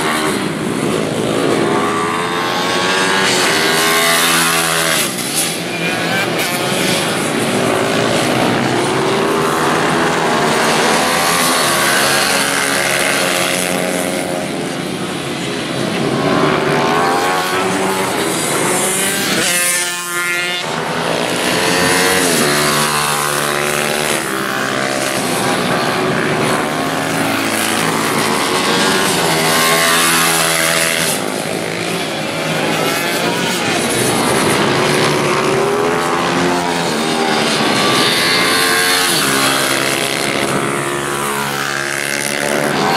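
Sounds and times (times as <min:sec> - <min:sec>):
motorcycle accelerating with rising whine: 0:00.0 - 0:42.9
small motorcycle engines revving: 0:00.0 - 0:42.9.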